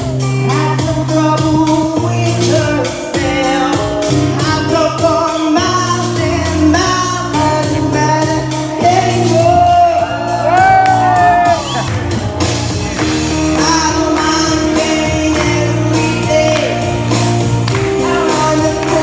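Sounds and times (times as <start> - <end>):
pop backing track: 0.0 - 19.0
person singing through a pa: 0.2 - 11.5, 13.5 - 16.9, 17.9 - 19.0.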